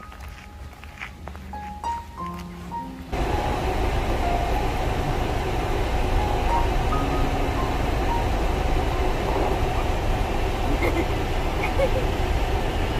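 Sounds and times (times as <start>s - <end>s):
car engine and road noise: 0.0s - 12.9s.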